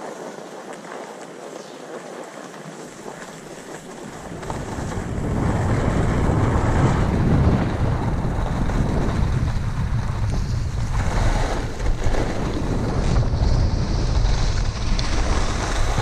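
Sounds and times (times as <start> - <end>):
skis hissing over snow: 0.0 - 16.0
wind buffeting microphone: 1.5 - 16.0.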